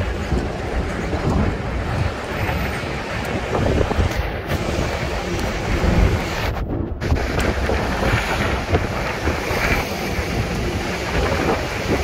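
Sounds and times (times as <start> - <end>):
bus rumbling: 0.0 - 12.0
street traffic: 0.0 - 12.0
wind buffeting microphone: 0.0 - 12.0.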